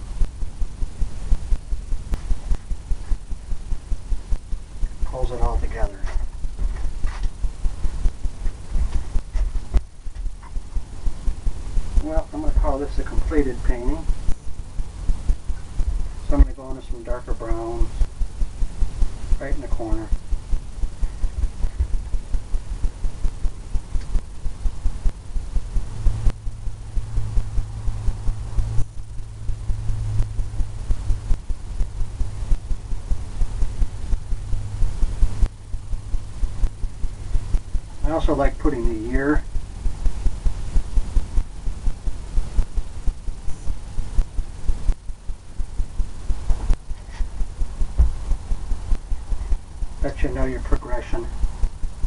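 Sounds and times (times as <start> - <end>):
low hum: 0.0 - 52.0
low throbbing rumble: 0.0 - 52.0.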